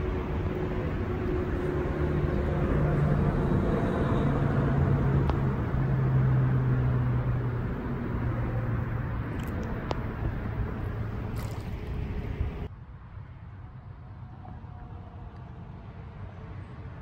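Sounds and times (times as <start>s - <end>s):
low engine hum: 0.0s - 17.0s
outdoor noise: 0.0s - 17.0s.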